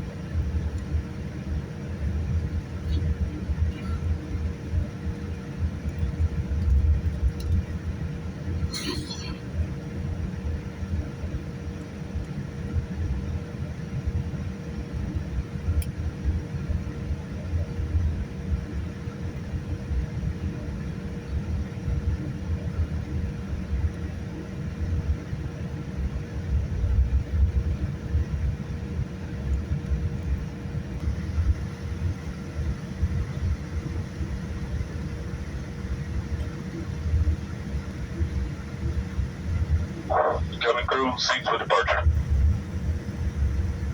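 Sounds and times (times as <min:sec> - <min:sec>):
airplane cabin rumble: 0:00.0 - 0:43.9
faint constant hum: 0:00.0 - 0:43.9.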